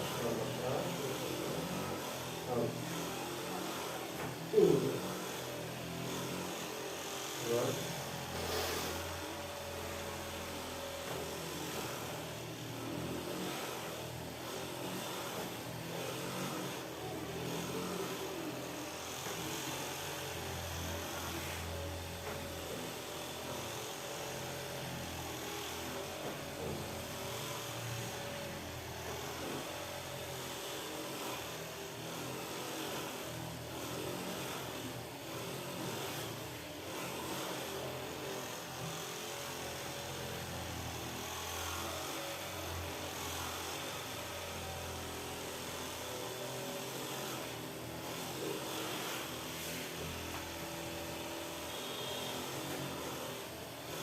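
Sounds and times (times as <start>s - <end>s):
small electric motor humming: 0.0s - 54.0s.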